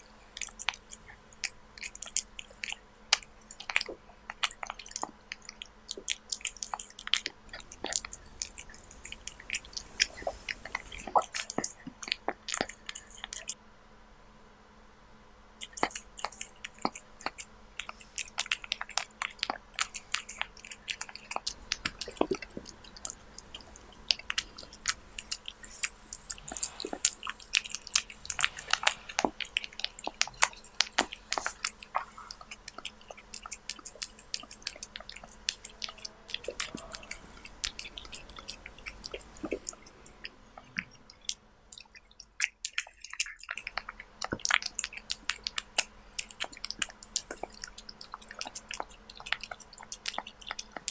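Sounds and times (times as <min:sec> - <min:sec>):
kitten chewing wetly: 0:00.0 - 0:13.6, 0:15.6 - 0:50.9.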